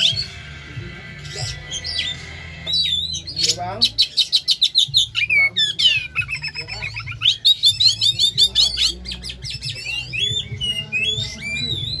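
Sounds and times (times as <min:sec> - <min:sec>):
bird singing chirps and whistles: 0:00.0 - 0:00.5, 0:01.2 - 0:12.0.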